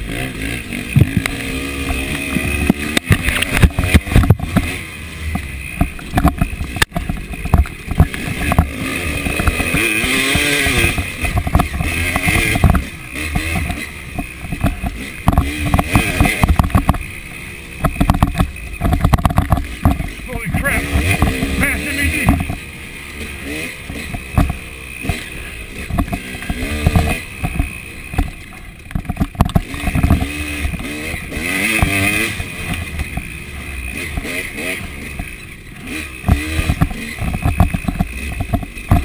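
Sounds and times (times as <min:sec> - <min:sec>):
dirt bike engine revving: 0:00.0 - 0:39.0
knocks and rattles from bumps: 0:00.9 - 0:33.4, 0:34.0 - 0:39.0.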